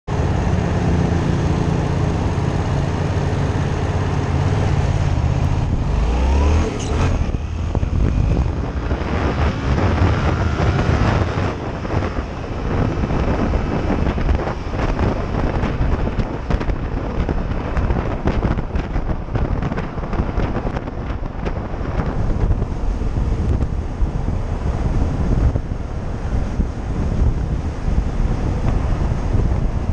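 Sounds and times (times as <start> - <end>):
motorcycle engine idling and revving: 0.1 - 29.9
wind noise on microphone: 0.1 - 29.9.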